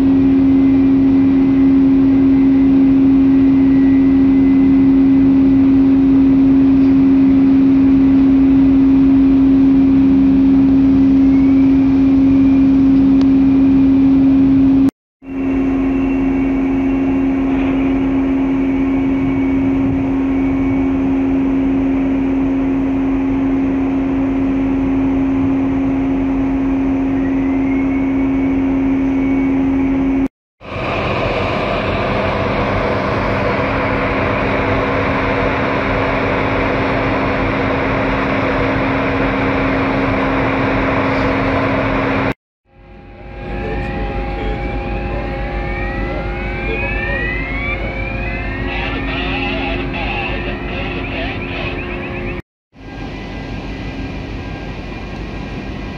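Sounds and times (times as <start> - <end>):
ship machinery hum: 0.0 - 55.9.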